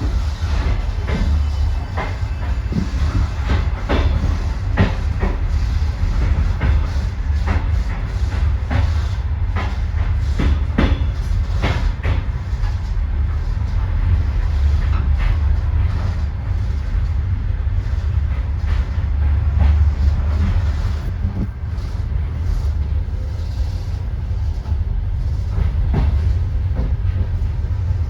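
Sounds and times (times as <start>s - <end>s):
train rumbling: 0.0s - 28.0s
train wheels clacking on rail joints: 0.0s - 28.0s.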